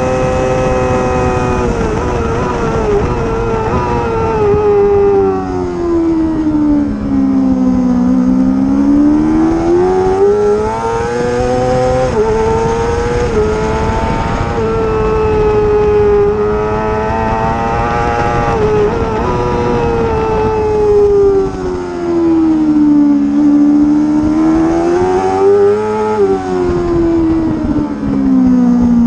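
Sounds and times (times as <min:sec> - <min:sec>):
racing motorcycle engine revving: 0:00.0 - 0:29.0.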